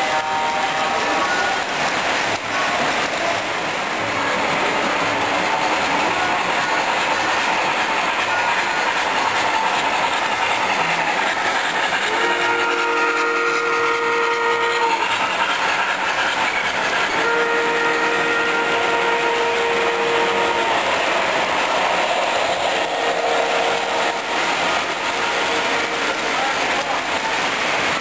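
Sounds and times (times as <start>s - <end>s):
model trains rumbling and clattering: 0.0s - 28.0s.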